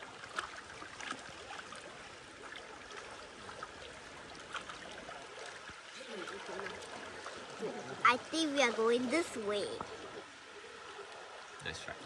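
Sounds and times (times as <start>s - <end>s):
river water running and trickling: 0.0s - 12.0s
small splashes and ticks: 0.0s - 12.0s.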